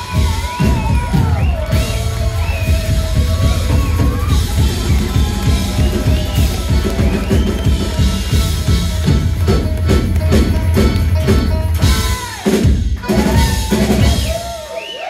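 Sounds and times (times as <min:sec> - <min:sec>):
folk bluegrass band playing: 0:00.0 - 0:14.5
loud kick drum beat: 0:00.0 - 0:14.5.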